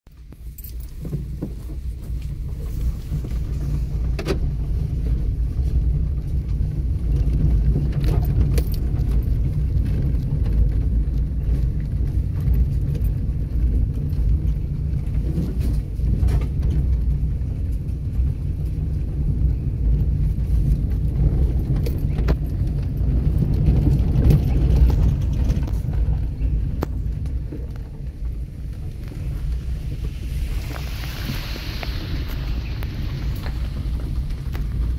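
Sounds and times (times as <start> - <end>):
car interior rattles and clicks: 0.1 - 30.8, 31.8 - 34.9
car rumbling on dirt road: 0.1 - 34.9.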